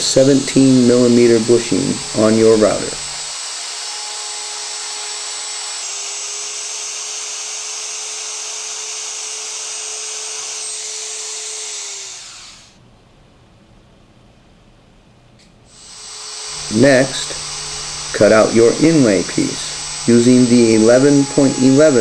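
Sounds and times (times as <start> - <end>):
electric router high whine: 0.0 - 12.8, 15.7 - 22.0.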